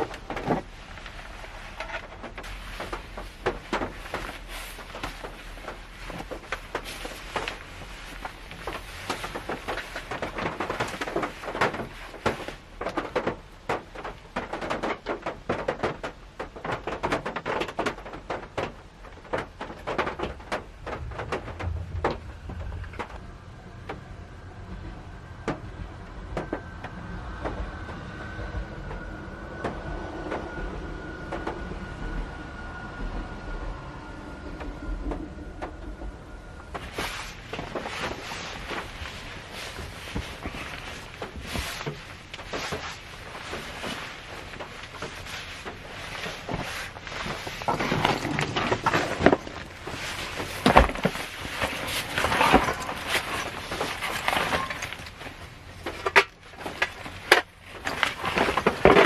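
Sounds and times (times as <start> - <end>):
raindrops hitting car roof: 0.0 - 27.9, 35.1 - 59.0.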